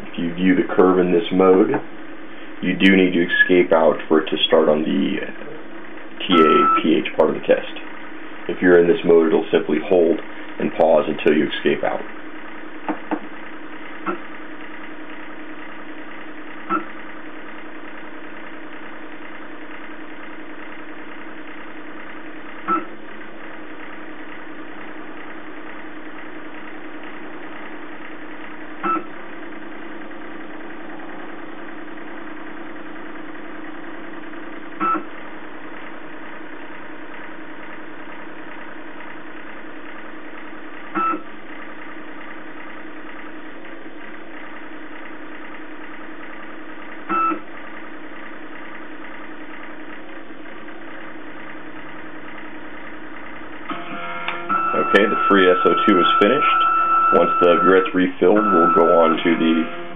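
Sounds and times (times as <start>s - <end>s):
motor hum of stirrer and pump: 0.0s - 59.9s.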